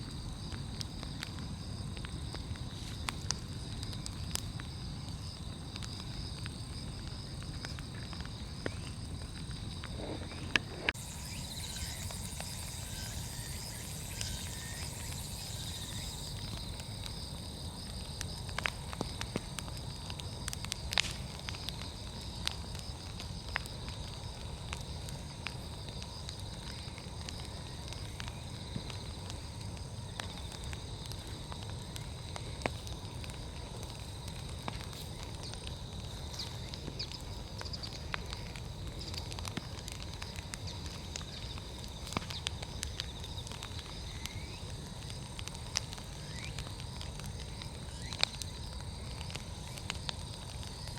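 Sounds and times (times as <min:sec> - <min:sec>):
bonfire rumbling: 0:00.0 - 0:50.9
fire crackling and popping: 0:00.0 - 0:50.9
insects trilling: 0:00.0 - 0:50.9.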